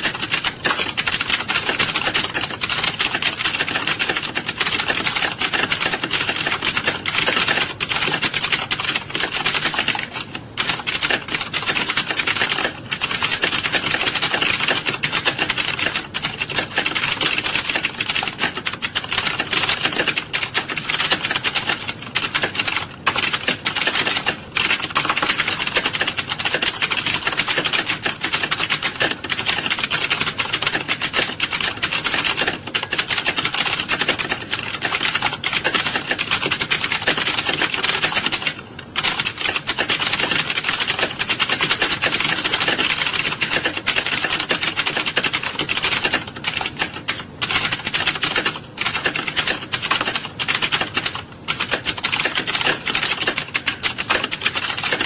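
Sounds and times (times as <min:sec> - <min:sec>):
computer keyboards clattering: 0:00.0 - 0:55.0.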